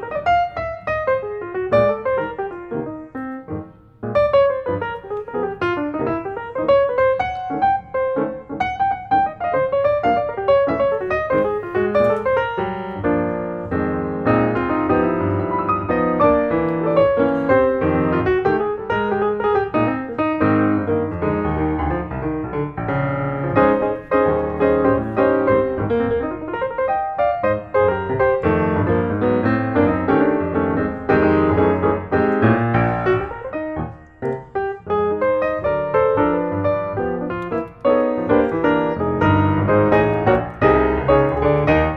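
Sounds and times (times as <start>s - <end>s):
piano music: 0.0s - 41.9s.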